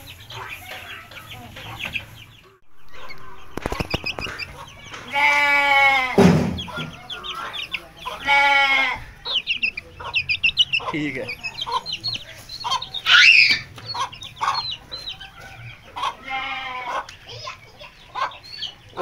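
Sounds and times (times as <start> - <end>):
chicks peeping: 0.0 - 19.0
farm animal calling: 0.1 - 19.0.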